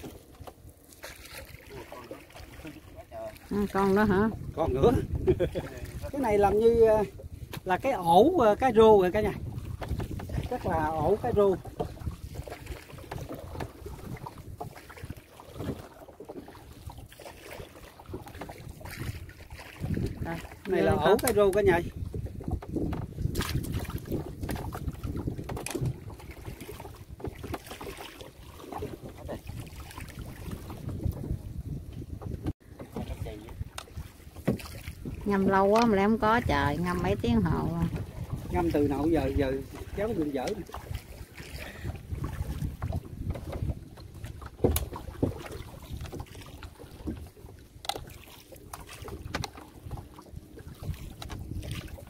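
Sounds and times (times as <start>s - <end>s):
water splashing and dripping: 0.0s - 31.4s, 32.8s - 52.0s
wind on microphone: 1.2s - 17.1s, 17.9s - 52.0s.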